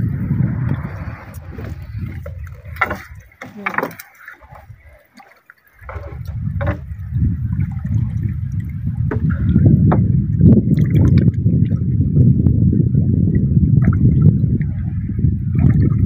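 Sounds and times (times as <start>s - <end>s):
heavy low water wash: 0.0s - 16.0s
water sloshing and dripping: 0.5s - 12.0s, 13.2s - 16.0s.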